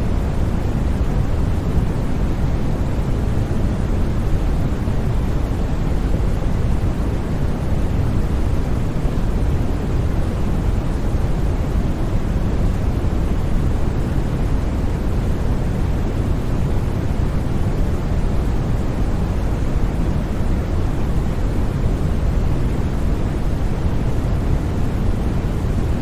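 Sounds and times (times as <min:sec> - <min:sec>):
white noise: 0:00.0 - 0:26.0.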